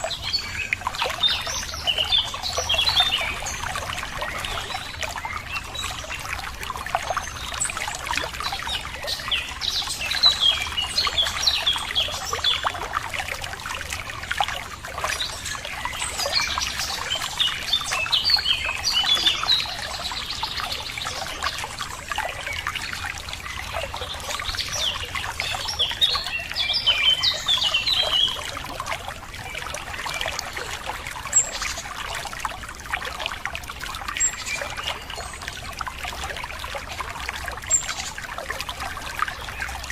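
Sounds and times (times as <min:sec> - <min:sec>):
songbirds chirping: 0:00.0 - 0:39.9
water trickling and splashing: 0:00.0 - 0:39.9.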